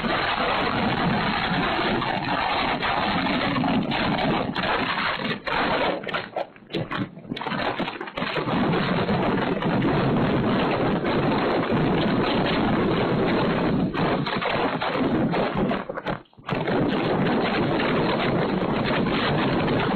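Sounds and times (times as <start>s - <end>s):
gusty wind buffeting microphone: 0.0s - 19.9s.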